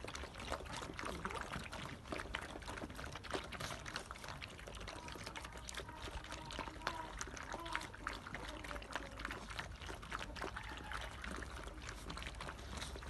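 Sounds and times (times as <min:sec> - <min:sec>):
puppies lapping and chewing: 0:00.0 - 0:13.0.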